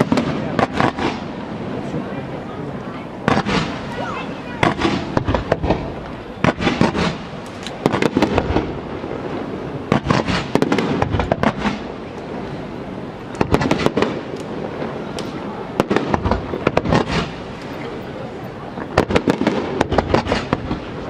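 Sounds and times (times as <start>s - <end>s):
firework shells bursting: 0.0s - 1.4s, 3.2s - 12.4s, 13.2s - 18.0s, 18.8s - 21.0s
noisy rumble: 0.0s - 21.0s.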